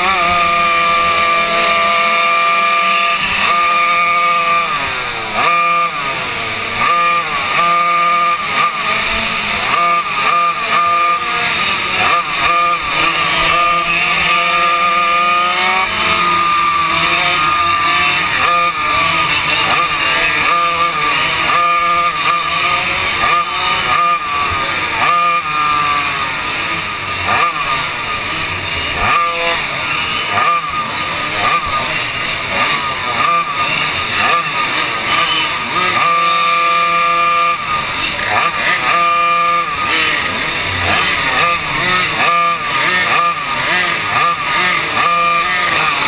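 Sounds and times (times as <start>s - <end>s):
kart engine revving: 0.0s - 46.0s
other kart engines: 0.0s - 46.0s.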